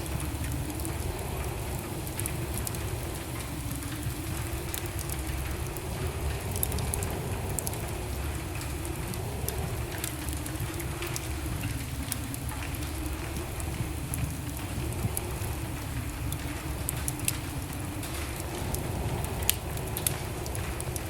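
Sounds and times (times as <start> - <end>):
low rush of flame: 0.0 - 21.0
wood fire crackling: 0.0 - 21.0.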